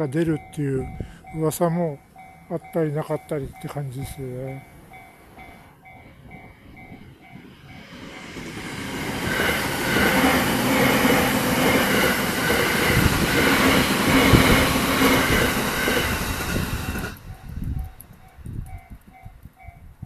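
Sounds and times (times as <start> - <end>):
crossing warning bell dinging: 0.0 - 20.0
train rumbling and rattling: 0.0 - 20.0.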